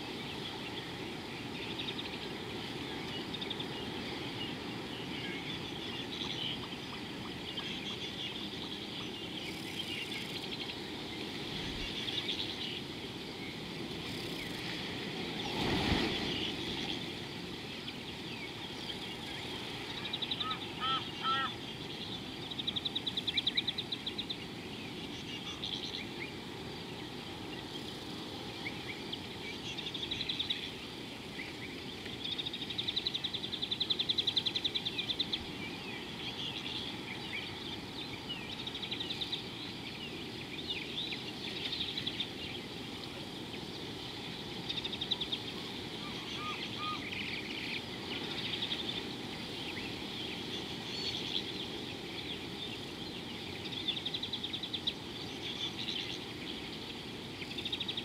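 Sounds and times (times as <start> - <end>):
birds calling and trilling: 0.0 - 58.0.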